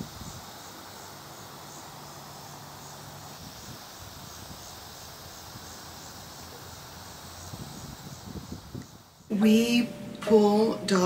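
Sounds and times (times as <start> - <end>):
insects chirping: 0.0 - 11.0
steady outdoor hiss: 0.0 - 11.0.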